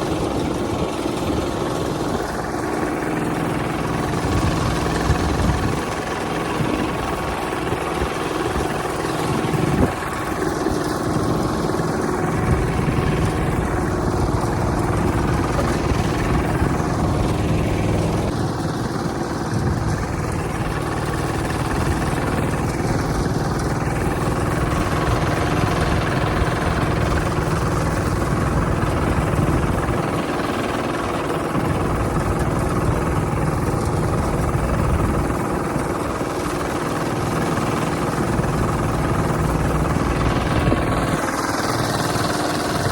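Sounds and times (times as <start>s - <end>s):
tractor engine droning: 0.0s - 42.9s.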